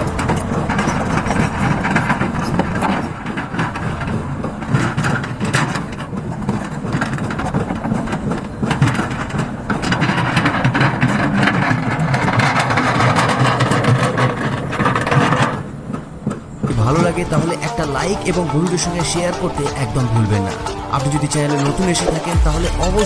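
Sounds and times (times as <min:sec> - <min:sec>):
dense clattering: 0:00.0 - 0:23.0
excavator diesel engine running: 0:00.0 - 0:23.0.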